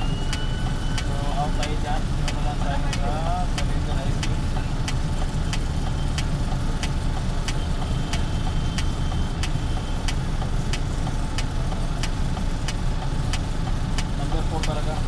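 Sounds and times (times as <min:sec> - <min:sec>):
diesel truck engine idling: 0:00.0 - 0:15.0
sharp regular engine tick: 0:00.0 - 0:15.0.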